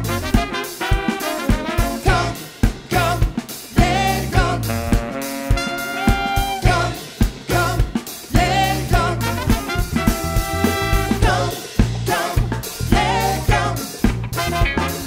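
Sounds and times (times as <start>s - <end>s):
trumpet: 0.0s - 11.8s, 14.3s - 15.0s
bass guitar: 0.0s - 15.0s
drum kit: 0.0s - 15.0s
electric guitars: 0.0s - 15.0s
saxophone: 0.0s - 15.0s.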